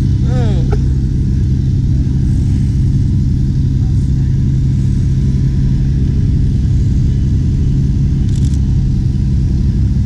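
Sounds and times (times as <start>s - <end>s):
car engine rumbling: 0.0s - 10.0s
constant low hum: 0.0s - 10.0s.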